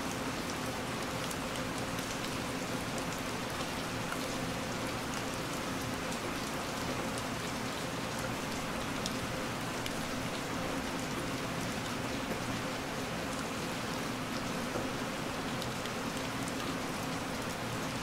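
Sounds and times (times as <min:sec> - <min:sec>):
heavy rain on a window: 0:00.0 - 0:18.0.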